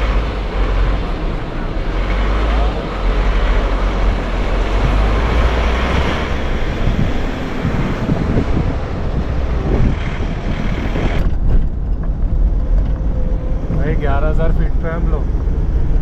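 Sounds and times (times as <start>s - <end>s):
vehicle road noise: 0.0s - 16.0s
wind rumbling on microphone: 0.0s - 16.0s.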